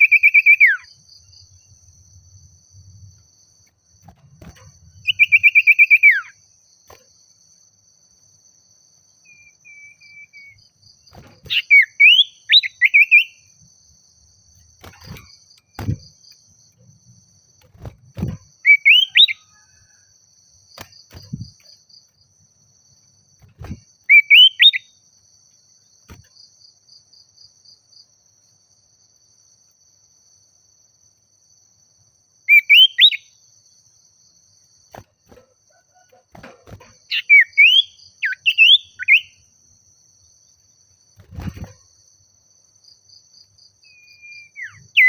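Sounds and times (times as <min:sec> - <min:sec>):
high-pitched insect trill: 0:00.0 - 0:45.0.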